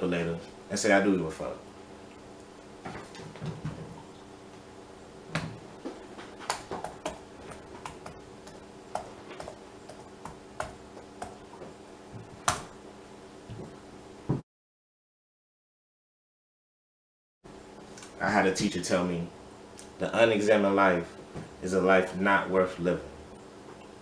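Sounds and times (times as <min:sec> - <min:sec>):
faint steady hum: 0:00.0 - 0:14.4, 0:17.5 - 0:24.0.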